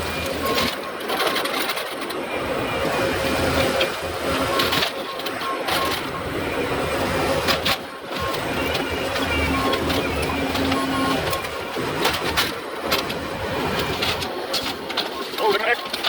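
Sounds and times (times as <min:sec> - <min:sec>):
demolition machine engine running: 0:00.0 - 0:16.0.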